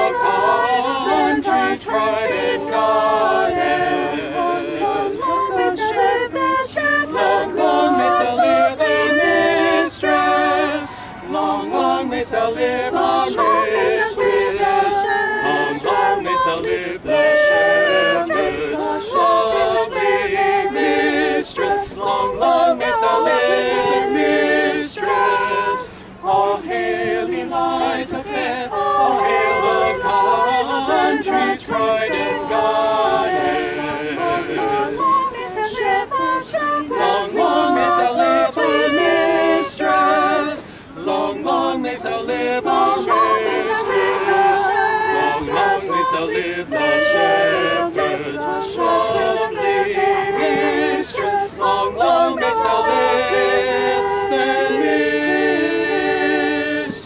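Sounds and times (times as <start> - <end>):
mixed voices singing a cappella: 0.0 - 57.0.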